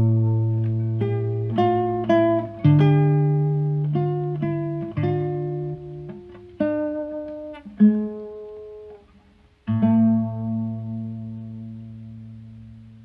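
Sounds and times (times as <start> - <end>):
acoustic guitar chords ringing: 0.0 - 13.0.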